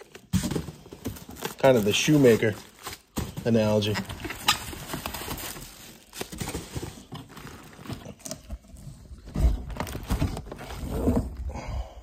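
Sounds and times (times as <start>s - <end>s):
cardboard and plastic rustling: 0.0s - 11.5s.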